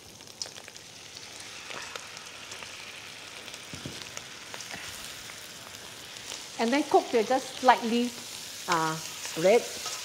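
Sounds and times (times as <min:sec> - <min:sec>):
prawns sizzling in oil: 0:00.0 - 0:10.0.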